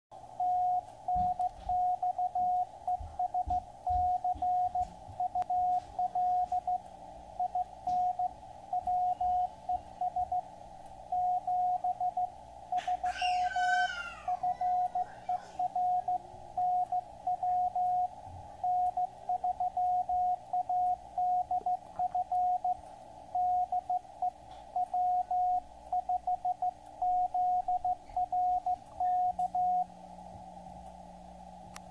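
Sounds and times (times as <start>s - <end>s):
faint radio hiss: 0.2s - 31.9s
morse code beeps: 0.4s - 13.0s, 14.4s - 29.9s.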